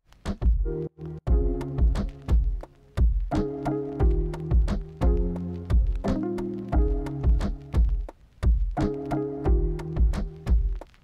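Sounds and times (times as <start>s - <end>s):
drum beat with deep kicks: 0.3s - 0.7s, 1.3s - 11.0s.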